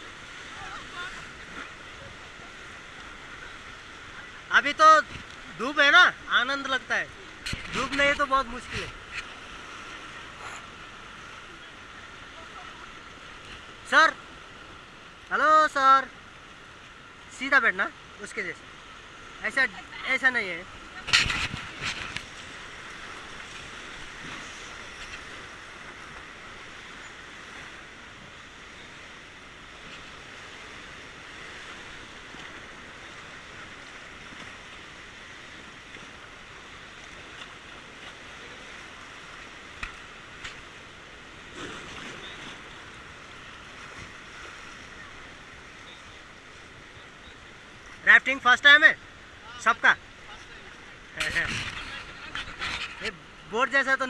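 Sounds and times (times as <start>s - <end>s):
fast-flowing river water: 0.0s - 54.0s.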